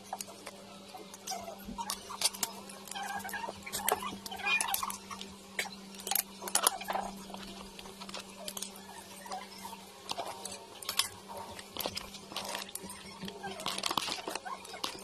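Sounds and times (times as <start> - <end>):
steady low hum: 0.0 - 15.0
crab shell cracking: 1.2 - 9.4, 10.1 - 15.0.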